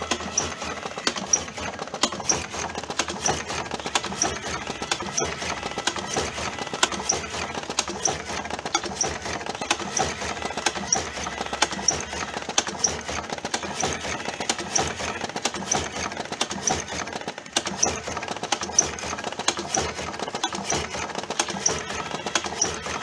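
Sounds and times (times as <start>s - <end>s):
filling machine clicking: 0.0s - 23.0s.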